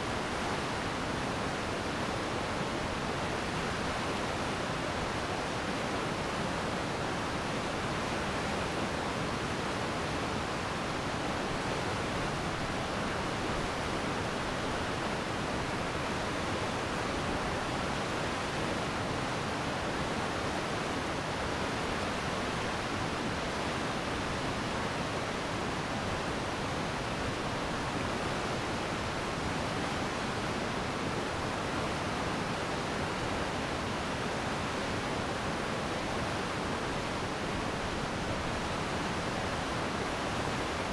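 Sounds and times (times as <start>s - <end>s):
stream rushing and splashing: 0.0s - 40.9s.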